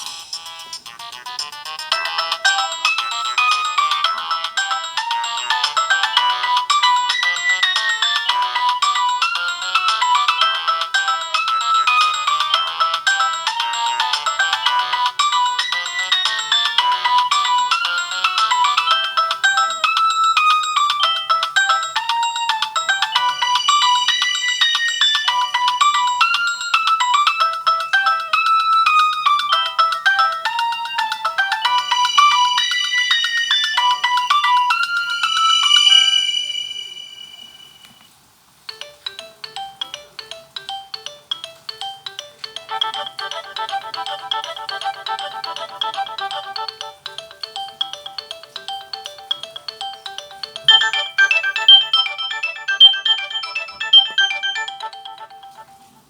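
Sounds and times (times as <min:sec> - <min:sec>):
polyphonic phone ringtone: 0:00.0 - 0:38.1, 0:38.7 - 0:56.0.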